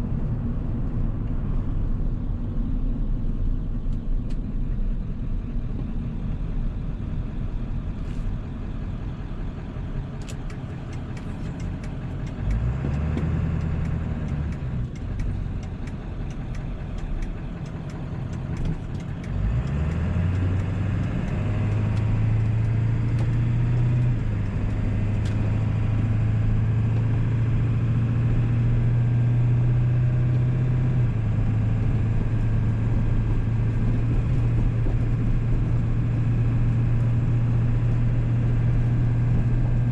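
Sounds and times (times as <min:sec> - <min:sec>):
diesel truck engine driving: 0:00.0 - 0:39.9.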